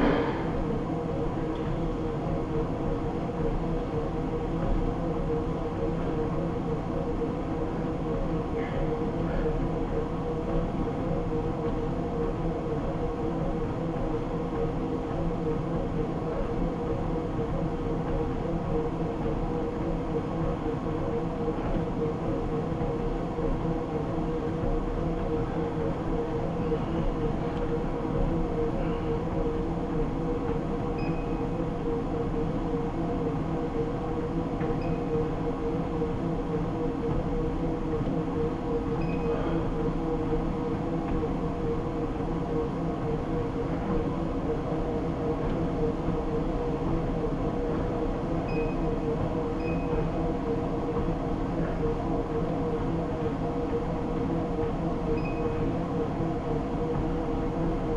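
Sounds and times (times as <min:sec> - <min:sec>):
treadmill motor and belt hum: 0:00.0 - 0:57.9.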